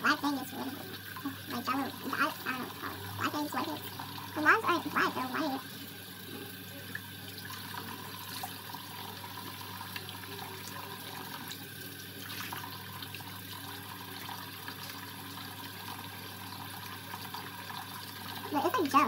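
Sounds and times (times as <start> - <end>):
sink tap running: 0.0 - 19.0.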